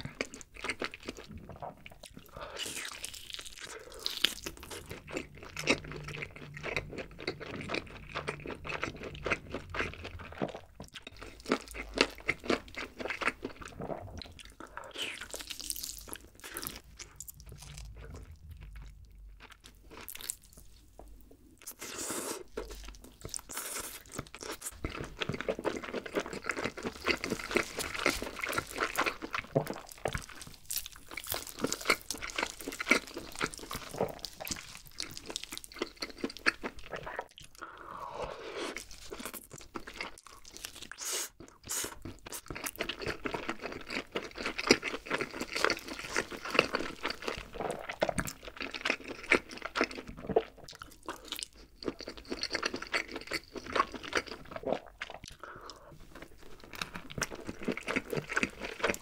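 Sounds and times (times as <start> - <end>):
chewing and tearing chicken: 0.0 - 21.0, 21.6 - 37.8, 38.6 - 59.0.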